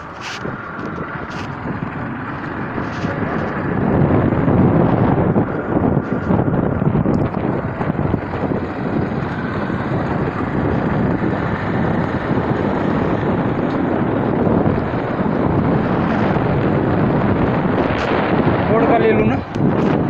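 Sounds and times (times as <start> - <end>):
road vehicle rushing noise: 0.0 - 20.0
wind buffeting microphone: 0.0 - 20.0.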